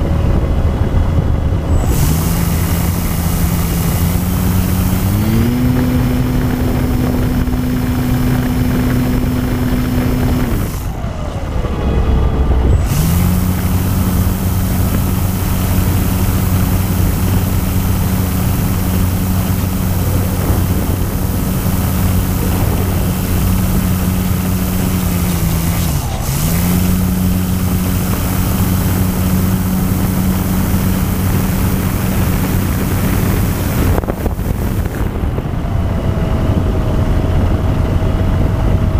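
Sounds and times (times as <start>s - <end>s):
model plane motor whining: 1.5s - 37.8s.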